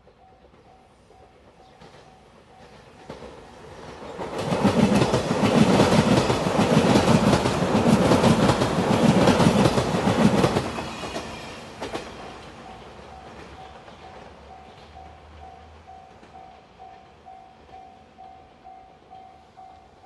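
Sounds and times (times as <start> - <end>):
train wheels clattering: 0.0 - 17.9.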